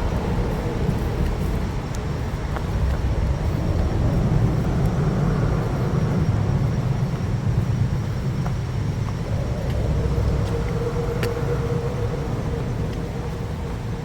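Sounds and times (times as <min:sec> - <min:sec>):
highway traffic rumble: 0:00.0 - 0:14.0.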